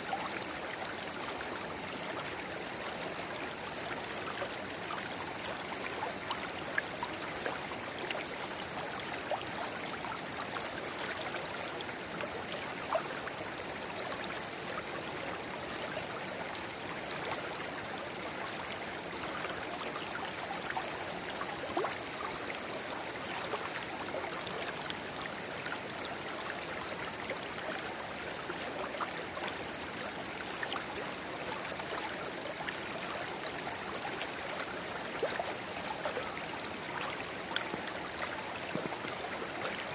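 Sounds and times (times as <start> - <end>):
river babbling: 0.1 - 39.9.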